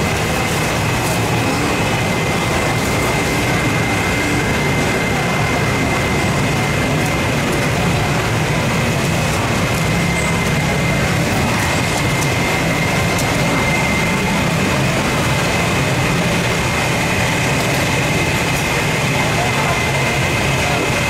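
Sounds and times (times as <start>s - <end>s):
mechanical hum and rush: 0.0s - 21.0s.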